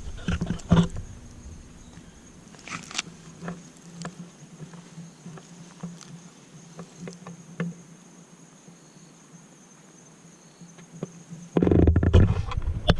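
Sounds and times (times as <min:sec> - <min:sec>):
insect trill: 0:00.0 - 0:12.1.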